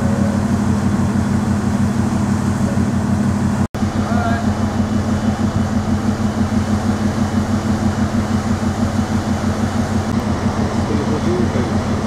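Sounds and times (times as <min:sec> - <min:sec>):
ferry machinery pulsing drone: 0:00.0 - 0:12.0.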